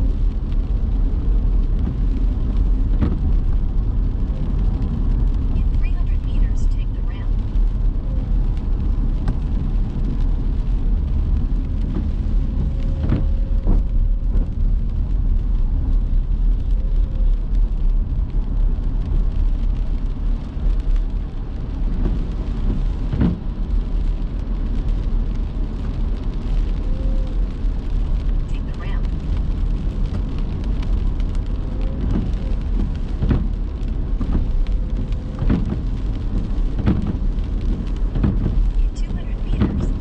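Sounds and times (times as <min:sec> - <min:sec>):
car engine and tyres rumble: 0:00.0 - 0:40.0
rain hiss and spray: 0:00.0 - 0:40.0.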